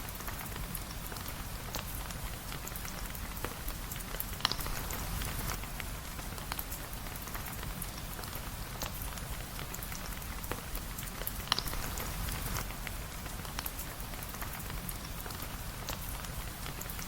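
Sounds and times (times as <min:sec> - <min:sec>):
sharp ticks of raindrops: 0:00.0 - 0:17.0
steady rain falling: 0:00.0 - 0:17.0.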